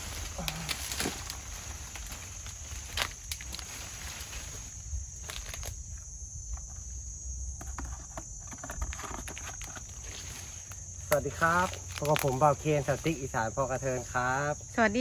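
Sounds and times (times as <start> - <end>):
rustling leaves and stems: 0.0 - 7.3, 8.3 - 15.0
insects trilling: 0.0 - 15.0.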